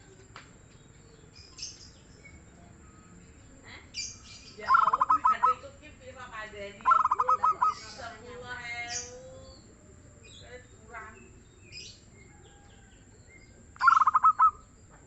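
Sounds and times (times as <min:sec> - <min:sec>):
dove rolling pulsed song: 0:00.0 - 0:15.0
faint bird calls: 0:01.2 - 0:05.9, 0:06.7 - 0:15.0.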